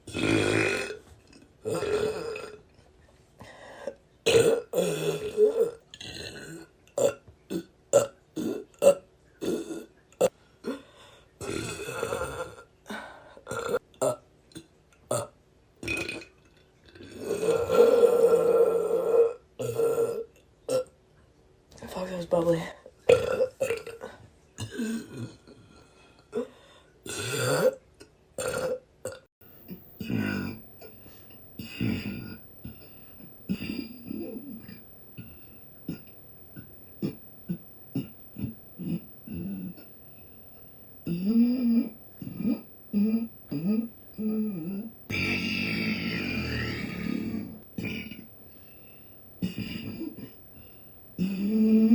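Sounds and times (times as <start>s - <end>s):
person burping: 0.0s - 2.7s, 4.2s - 10.8s, 11.4s - 21.0s, 23.1s - 40.2s, 41.0s - 48.7s, 49.4s - 51.9s.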